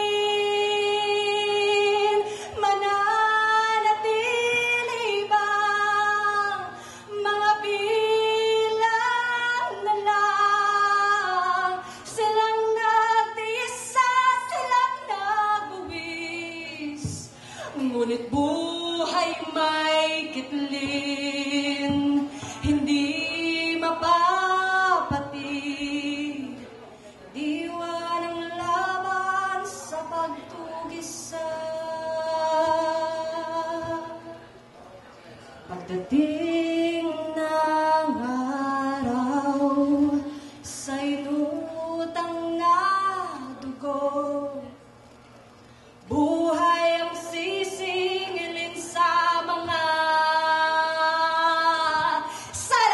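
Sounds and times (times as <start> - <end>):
woman singing a cappella: 0.0 - 26.7, 27.3 - 34.4, 35.7 - 44.8, 46.1 - 52.9.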